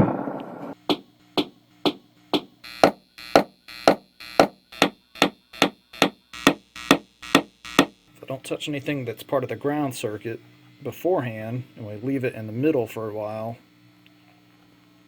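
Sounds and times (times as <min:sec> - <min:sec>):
faint amp hum: 0:00.7 - 0:15.0.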